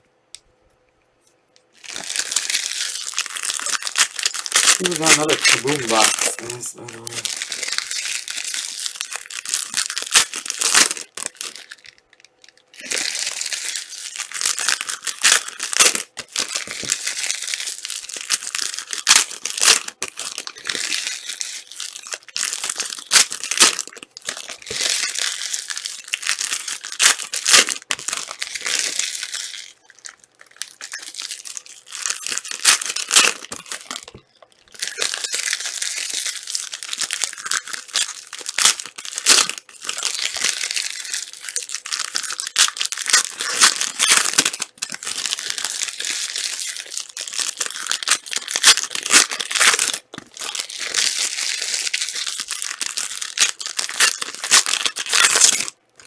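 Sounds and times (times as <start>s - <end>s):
card wrappers tearing and crinkling: 1.8s - 12.0s, 12.8s - 55.8s.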